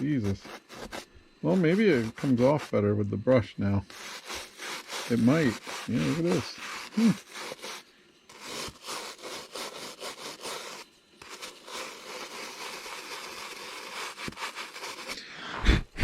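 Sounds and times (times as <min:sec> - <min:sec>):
brush scrubbing plastic: 0:00.0 - 0:15.2.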